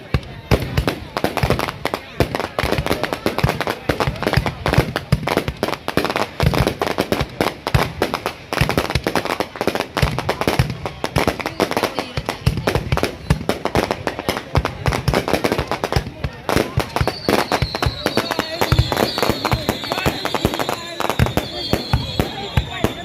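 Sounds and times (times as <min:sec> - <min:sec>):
deep fireworks booms: 0:00.0 - 0:23.0
fireworks bangs and crackles: 0:00.0 - 0:23.0.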